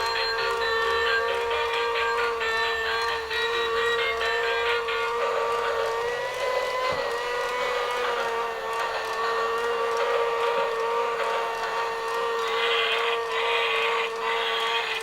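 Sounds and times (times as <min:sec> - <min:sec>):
toy train motor whining: 0:00.0 - 0:15.0.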